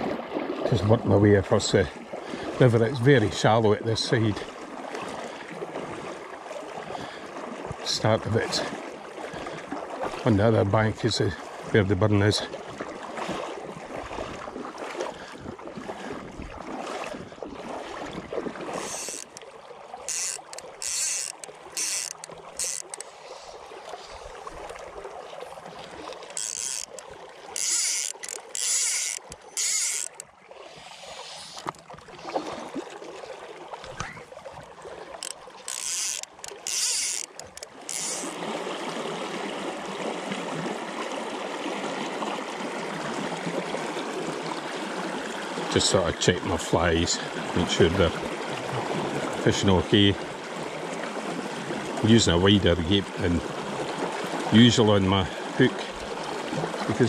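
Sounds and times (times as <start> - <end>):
flowing water rushing: 0.0 - 57.0
legs wading and splashing: 0.0 - 57.0.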